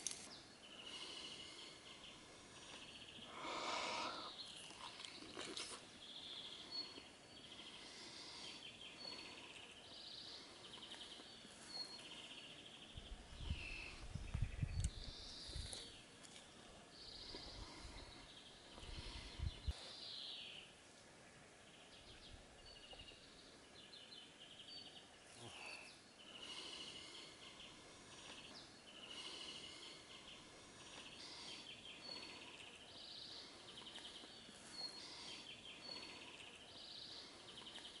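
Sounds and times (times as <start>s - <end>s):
faint songbirds singing: 0.0s - 38.0s.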